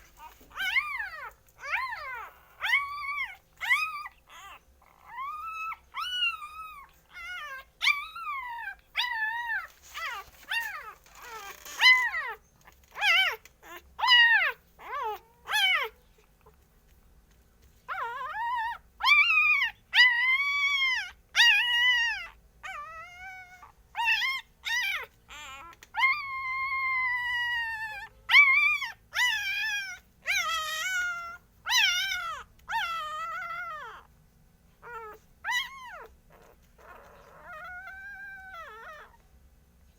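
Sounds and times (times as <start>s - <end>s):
puppies whining and crying: 0.0s - 39.9s.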